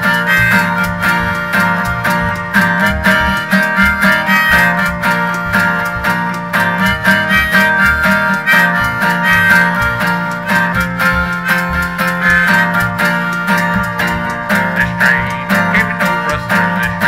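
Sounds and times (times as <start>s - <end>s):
harmonica melody: 0.0s - 17.0s
strummed acoustic guitar: 0.0s - 17.0s.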